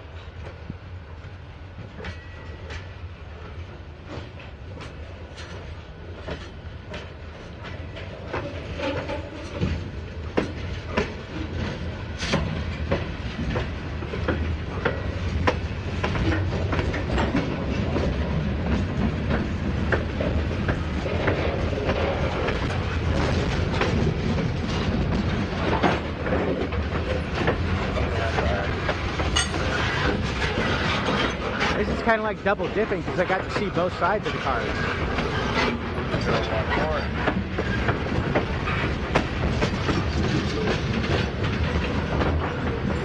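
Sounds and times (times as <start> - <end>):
train wheels clicking and clanking: 0.1 - 43.0.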